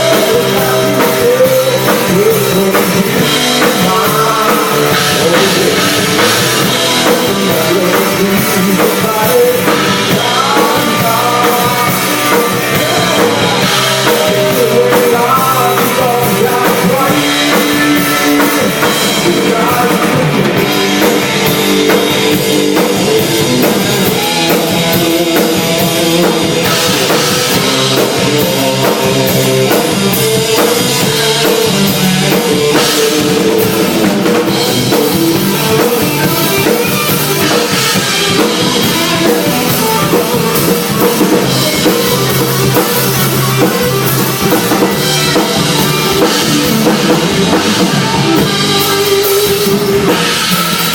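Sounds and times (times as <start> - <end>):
drum kit: 0.0 - 50.9
rock band playing: 0.0 - 50.9.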